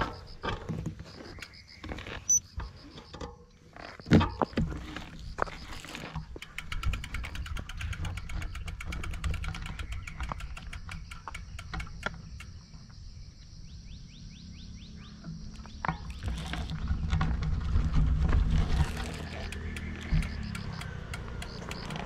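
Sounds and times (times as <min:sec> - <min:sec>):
insects buzzing: 0:00.0 - 0:17.7, 0:18.4 - 0:22.0.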